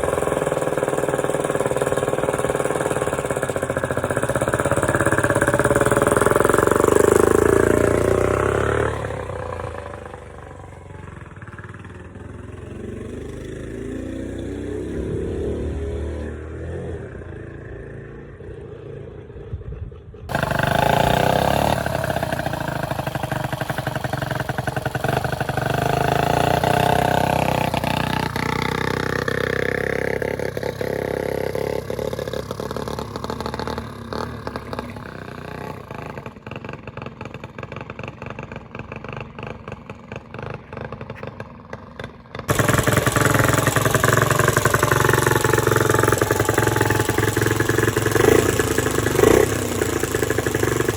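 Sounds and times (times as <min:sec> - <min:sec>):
small motorcycle engine revving: 0:00.0 - 0:50.9.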